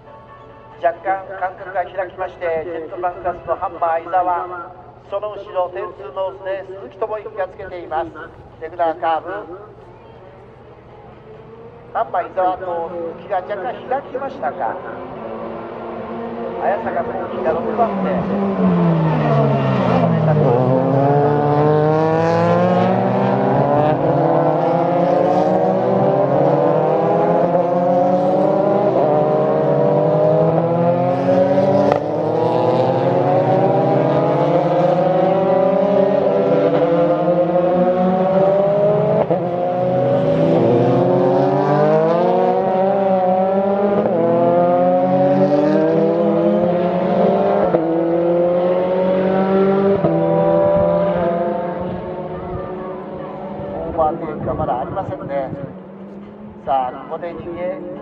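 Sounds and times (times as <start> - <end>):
race car engines accelerating: 0.8 - 58.0.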